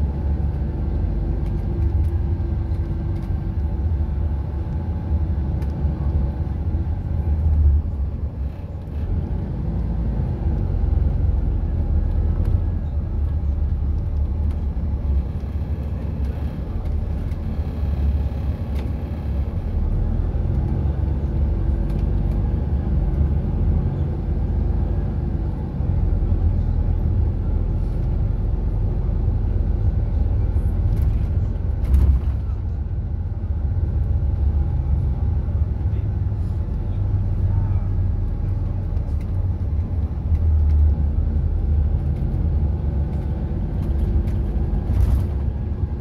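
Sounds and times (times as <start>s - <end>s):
bus diesel engine rumble: 0.0s - 46.0s
road noise: 0.0s - 46.0s.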